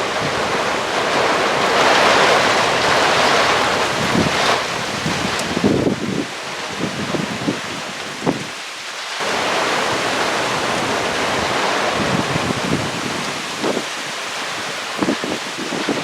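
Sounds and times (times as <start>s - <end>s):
wind buffeting microphone: 0.0s - 8.6s, 9.2s - 16.0s
wind gusting: 0.0s - 8.6s, 9.2s - 16.0s.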